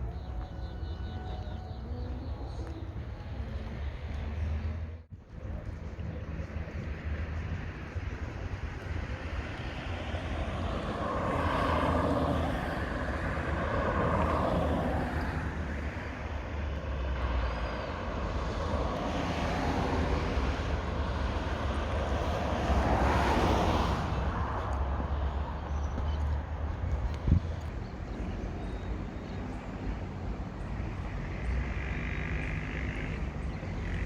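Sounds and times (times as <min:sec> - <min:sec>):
low traffic rumble: 0:00.0 - 0:34.0
vehicles passing: 0:00.0 - 0:34.0.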